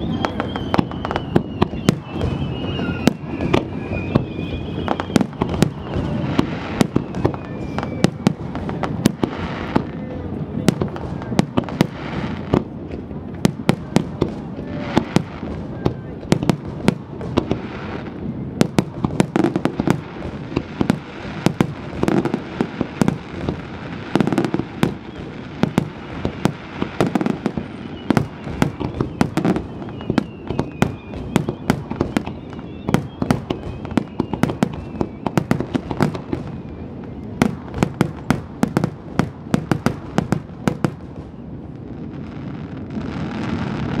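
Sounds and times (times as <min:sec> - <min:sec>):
fireworks bursting bangs: 0:00.0 - 0:44.0.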